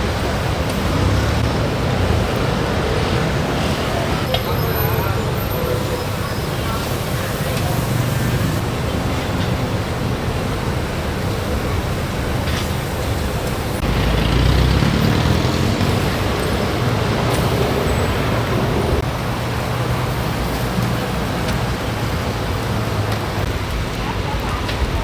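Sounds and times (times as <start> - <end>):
heavy vehicle passing: 0.0 - 24.2
road traffic noise: 0.0 - 25.0.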